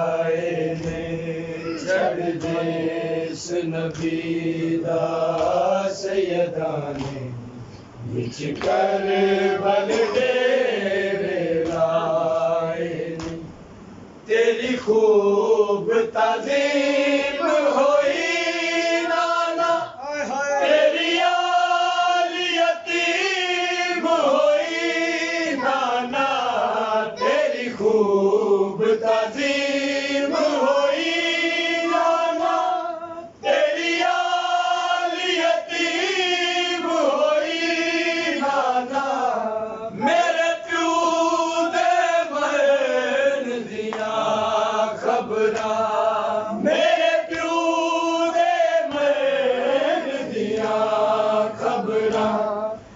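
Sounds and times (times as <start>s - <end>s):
men chanting a lament: 0.0s - 13.6s, 14.2s - 52.9s.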